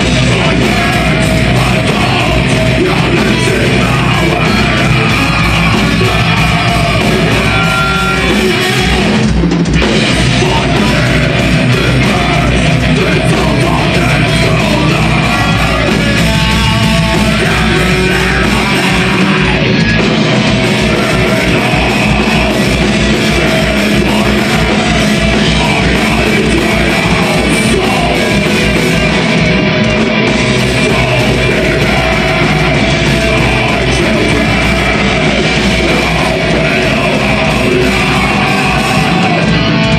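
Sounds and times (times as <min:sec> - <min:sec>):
vocals into a microphone: 0:00.0 - 0:29.5, 0:30.2 - 0:39.9
drum kit: 0:00.0 - 0:39.9
electric guitars: 0:00.0 - 0:39.9.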